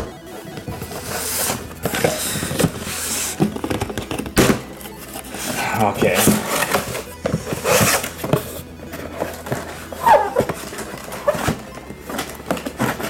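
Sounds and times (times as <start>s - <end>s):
background music: 0.0s - 13.0s
cardboard flaps scraping and rustling: 0.0s - 13.0s.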